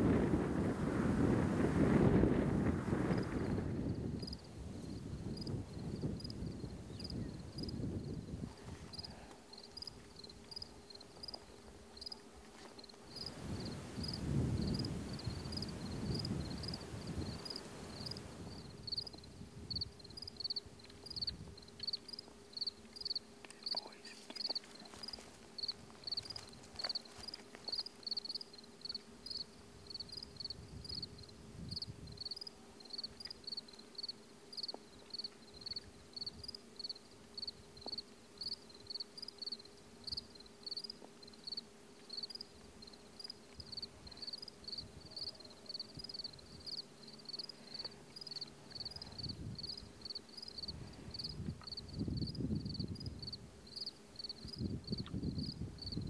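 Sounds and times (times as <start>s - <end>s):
faint steady hum: 0.0s - 56.0s
cricket chirping: 3.3s - 11.4s, 12.8s - 56.0s.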